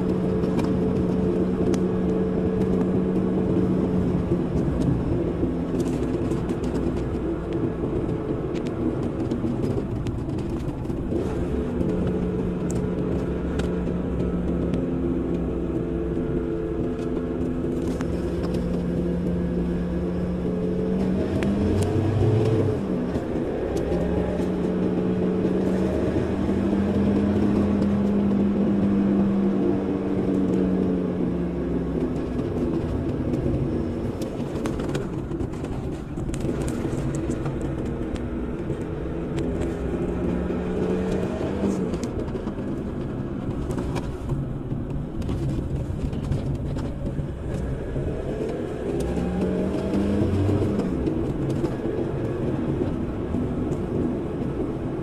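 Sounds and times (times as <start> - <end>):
car engine hum: 0.0 - 55.0
road noise: 0.0 - 55.0.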